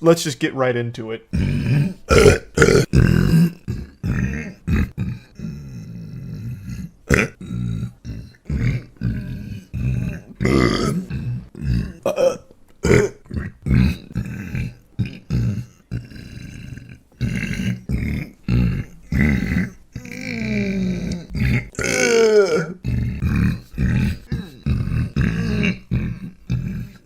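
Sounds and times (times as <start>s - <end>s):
man belching: 1.3s - 27.0s.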